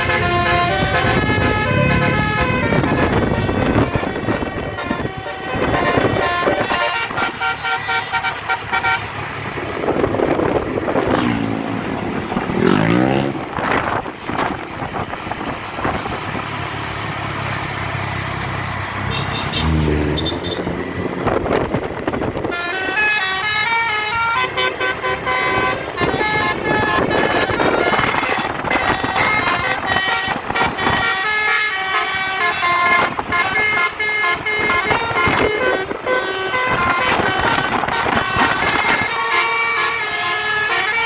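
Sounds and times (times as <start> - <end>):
bus musical air horn: 0.0 - 13.4, 19.0 - 41.0
passing vehicles: 0.0 - 41.0
road and engine noise: 0.0 - 41.0.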